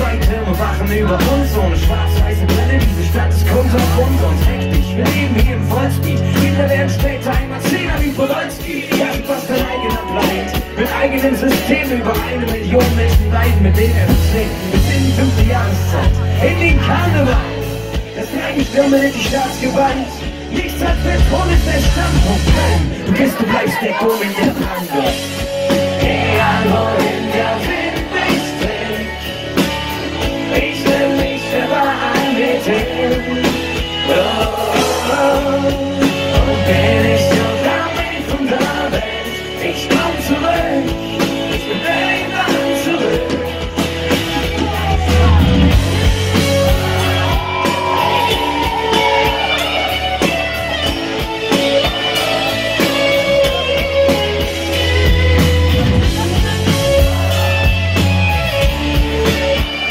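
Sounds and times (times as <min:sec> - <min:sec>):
person singing: 0:00.0 - 0:50.6
drums: 0:00.0 - 0:59.9
electric guitar: 0:00.0 - 0:59.9
live rock band: 0:00.0 - 0:59.9.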